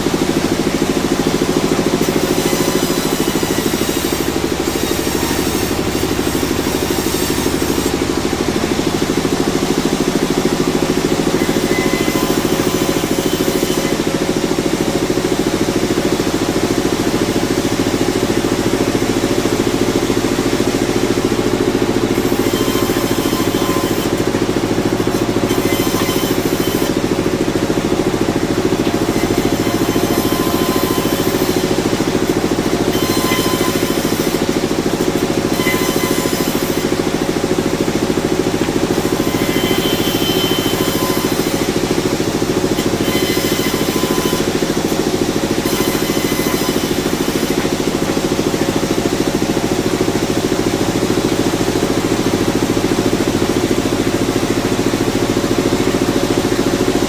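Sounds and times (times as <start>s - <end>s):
sawmill machinery droning: 0.0s - 57.0s.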